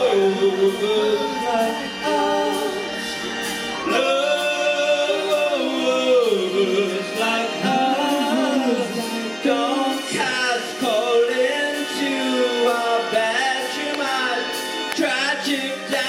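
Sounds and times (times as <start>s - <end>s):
live band music: 0.0s - 16.0s
people singing: 0.0s - 16.0s.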